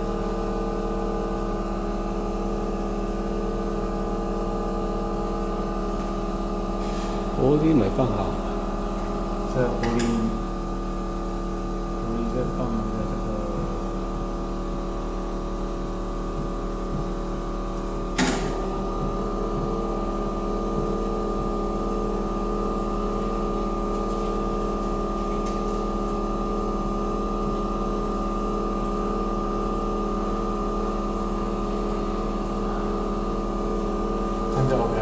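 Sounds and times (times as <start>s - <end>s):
machine humming: 0.0s - 35.0s.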